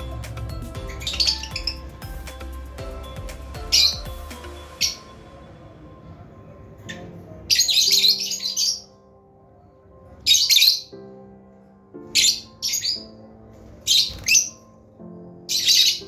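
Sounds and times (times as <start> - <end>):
lovebirds chirping: 0.0 - 11.2, 12.0 - 16.0
soft background music: 0.0 - 16.0.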